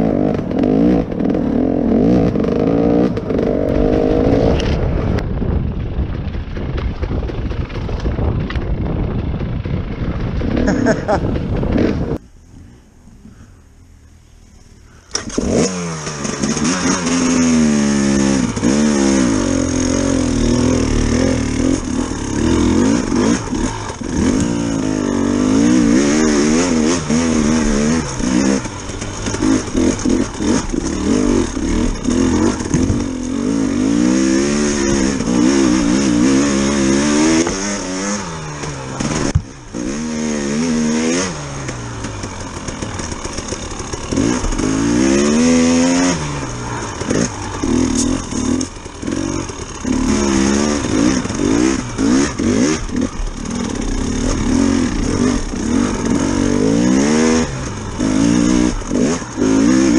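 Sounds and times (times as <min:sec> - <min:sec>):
dirt bike engine revving: 0:00.0 - 0:05.2, 0:09.9 - 0:12.2, 0:14.9 - 0:59.9.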